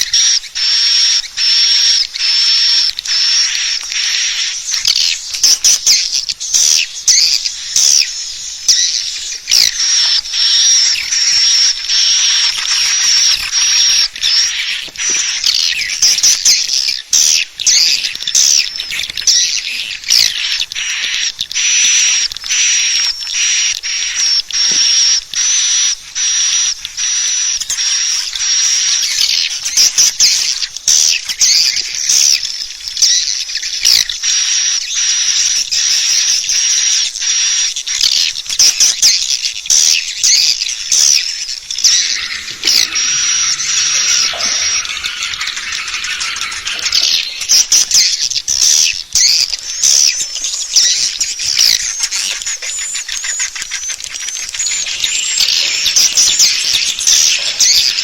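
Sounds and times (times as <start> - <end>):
swiftlets twittering: 0.0 - 35.0, 37.9 - 58.0.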